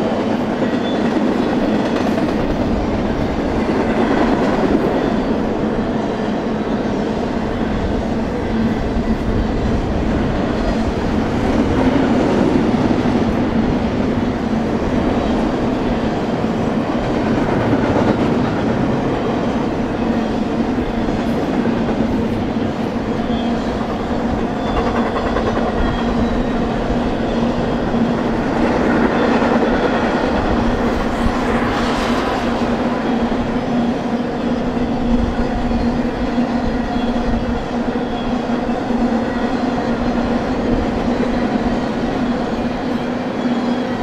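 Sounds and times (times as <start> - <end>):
freight train wheels clattering on rails: 0.0 - 44.0.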